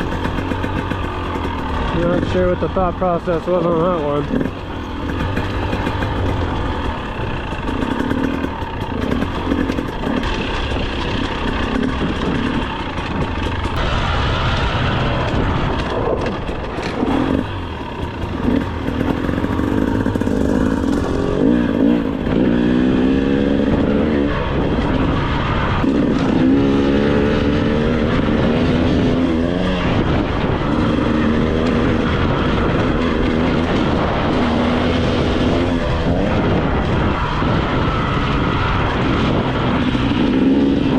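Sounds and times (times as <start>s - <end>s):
two-stroke engine revving: 0.0s - 13.9s, 15.1s - 40.9s.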